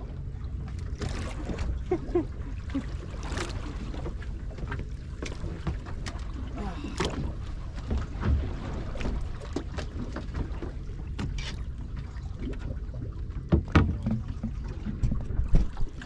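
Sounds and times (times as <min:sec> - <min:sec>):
water around boat hull: 0:00.0 - 0:16.0
wind rumble on microphone: 0:00.0 - 0:16.0.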